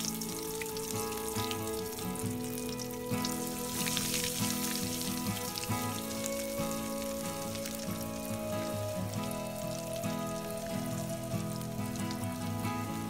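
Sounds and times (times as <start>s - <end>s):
background music: 0.0s - 13.0s
food deep-frying in oil: 0.0s - 13.0s.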